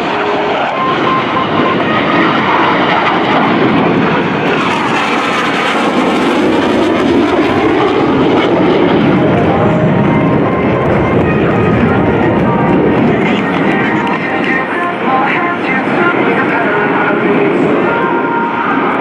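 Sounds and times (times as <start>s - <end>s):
jet flying past: 0.0s - 19.0s.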